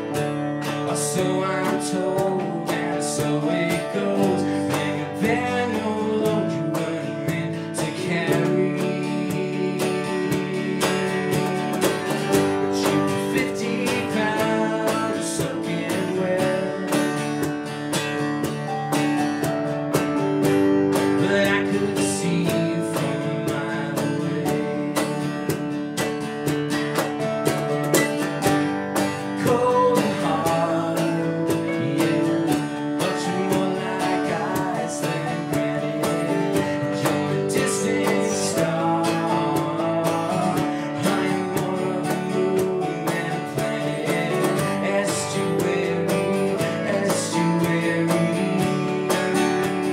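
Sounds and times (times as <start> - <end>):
electric bass: 0.0 - 49.9
keyboard playing: 0.0 - 49.9
strummed acoustic guitar: 0.0 - 49.9.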